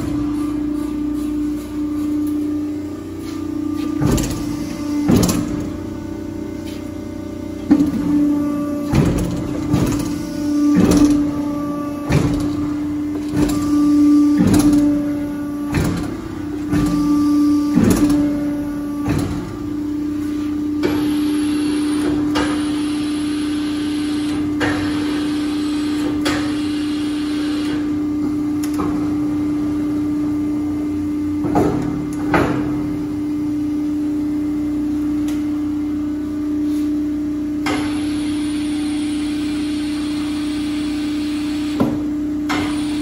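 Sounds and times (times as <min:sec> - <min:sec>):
machine humming: 0:00.0 - 0:36.5.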